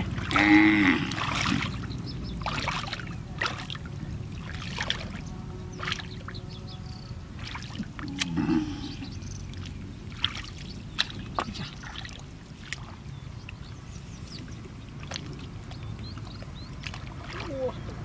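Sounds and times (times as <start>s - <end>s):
muddy water sloshing and splashing: 0.0s - 18.0s.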